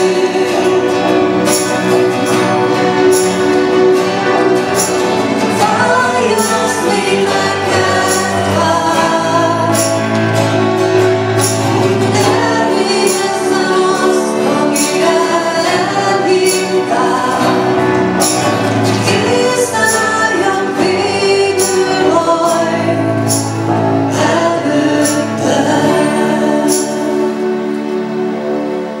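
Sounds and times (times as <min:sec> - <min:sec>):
acoustic guitar: 0:00.0 - 0:29.0
keyboard: 0:00.0 - 0:29.0
voices singing a hymn: 0:00.0 - 0:29.0.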